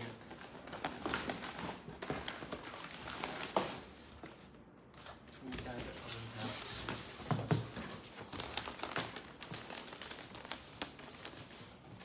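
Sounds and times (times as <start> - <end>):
wrapping paper rustling and crinkling: 0.0 - 4.4, 5.0 - 12.0.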